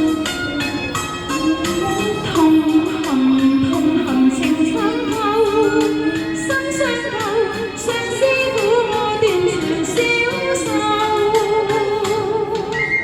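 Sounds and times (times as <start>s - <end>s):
pop song with backing track: 0.0s - 13.0s.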